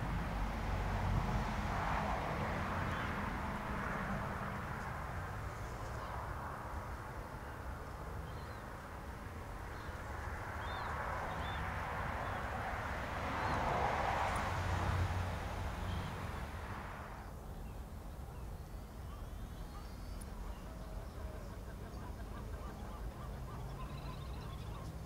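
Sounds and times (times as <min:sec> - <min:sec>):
rushing outdoor background noise: 0:00.0 - 0:25.0.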